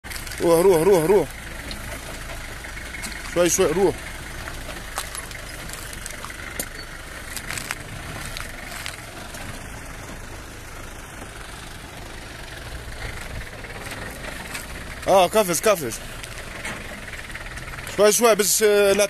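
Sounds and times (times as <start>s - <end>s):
engine running at low revs: 0.0s - 19.0s
stones crunching under tyres: 0.0s - 19.0s.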